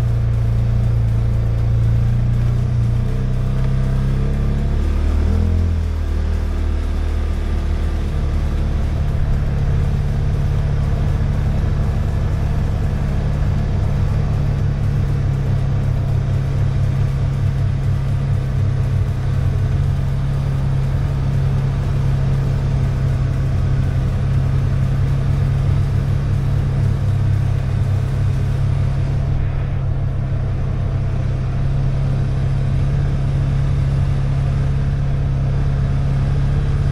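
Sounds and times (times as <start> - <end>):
single-cylinder engine running: 0.0 - 36.9.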